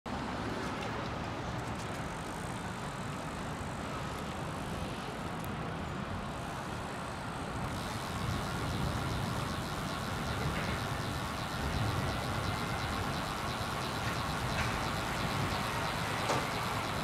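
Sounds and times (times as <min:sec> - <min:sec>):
city traffic noise: 0:00.1 - 0:17.0.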